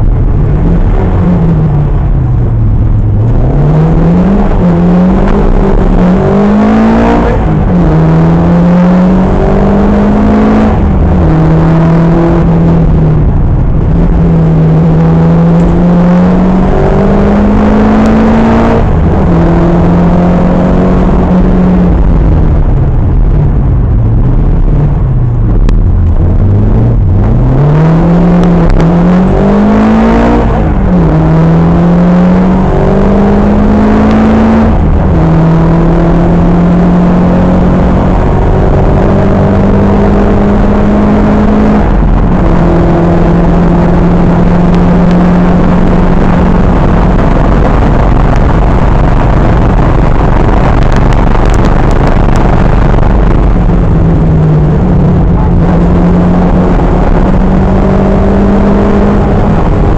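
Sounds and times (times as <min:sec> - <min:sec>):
rally car engine accelerating: 0:00.0 - 0:59.9
road and wind noise: 0:00.0 - 0:59.9.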